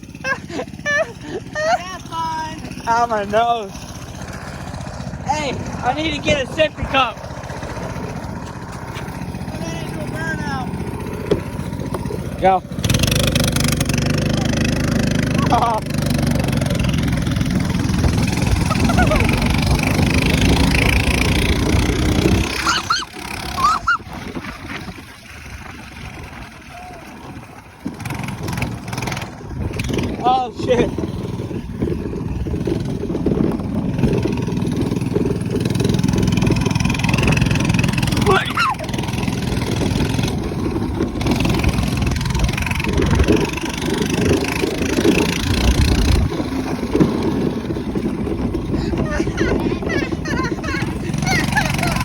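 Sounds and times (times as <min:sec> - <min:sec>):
minibike engine running: 0:00.0 - 0:52.0.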